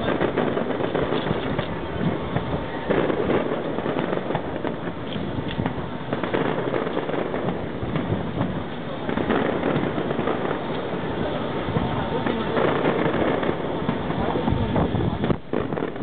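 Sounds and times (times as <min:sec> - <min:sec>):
distant fireworks popping: 0:00.0 - 0:16.0.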